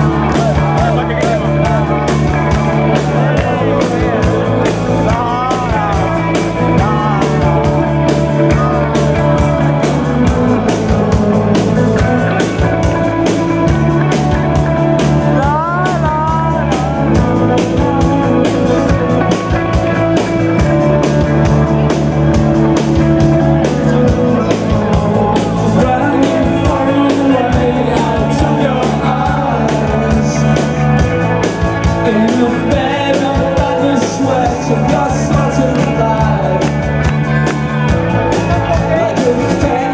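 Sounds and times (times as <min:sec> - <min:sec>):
bass guitar: 0:00.0 - 0:39.9
drums: 0:00.0 - 0:39.9
electric guitar: 0:00.0 - 0:39.9
person singing lead vocal: 0:00.0 - 0:39.9.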